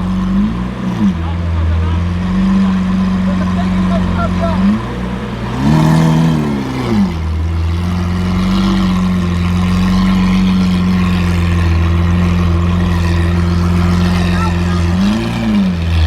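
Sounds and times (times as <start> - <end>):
sports car engine revving and idling: 0.0 - 16.0.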